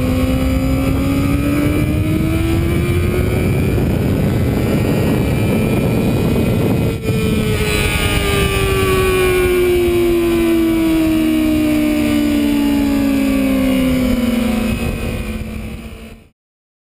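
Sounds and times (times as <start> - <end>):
motorcycle engine revving high: 0.0 - 16.3
wind rushing: 0.0 - 16.3.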